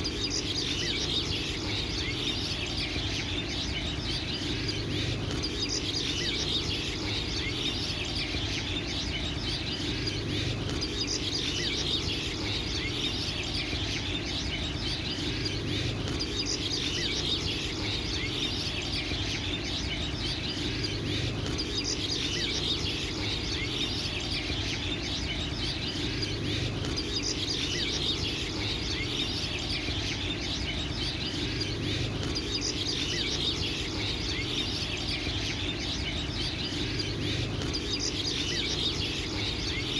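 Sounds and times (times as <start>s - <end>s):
low hum: 0.0s - 39.9s
small birds chirping: 0.0s - 39.9s.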